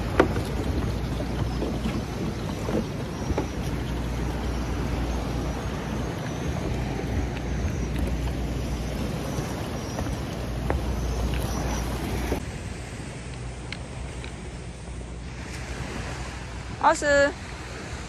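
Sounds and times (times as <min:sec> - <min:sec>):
boat engine rumbling: 0:00.0 - 0:18.0
rushing water noise: 0:00.0 - 0:18.0.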